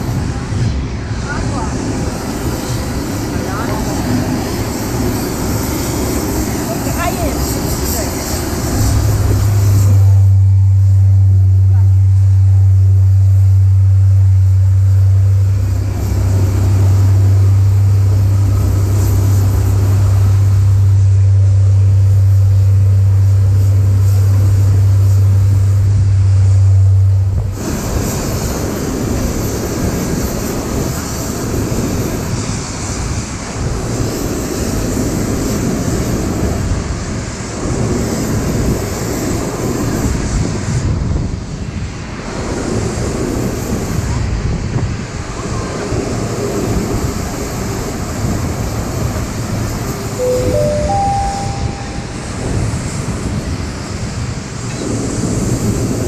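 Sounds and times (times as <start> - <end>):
airliner cabin low hum: 0.0 - 41.1, 46.2 - 56.0
engines and airflow rumbling: 0.0 - 56.0.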